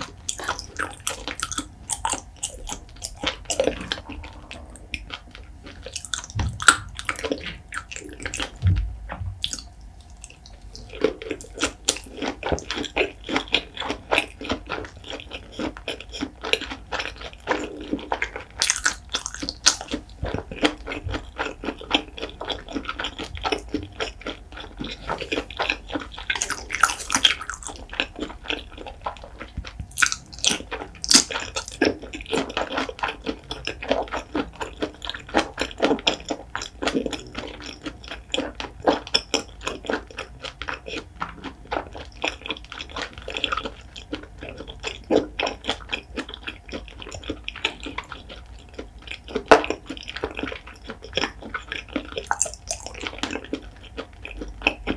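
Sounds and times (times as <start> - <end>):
wet chewing and lip smacking: 0.0 - 54.9.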